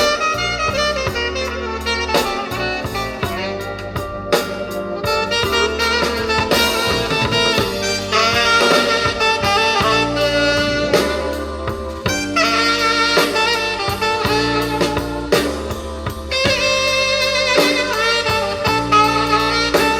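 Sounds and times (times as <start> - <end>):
bass: 0.0 - 19.9
drum kit: 0.0 - 19.9
saxophone lead line: 0.0 - 19.9.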